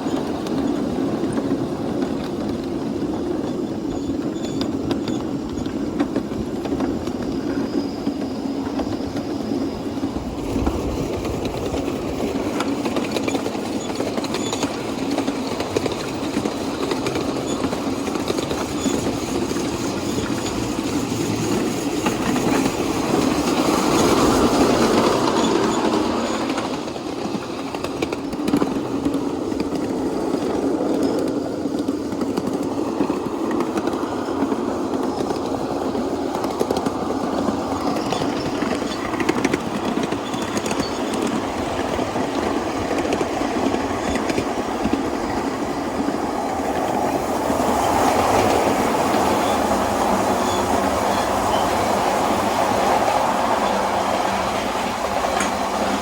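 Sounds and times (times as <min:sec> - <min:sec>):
miniature steam train running: 0:00.0 - 0:56.0.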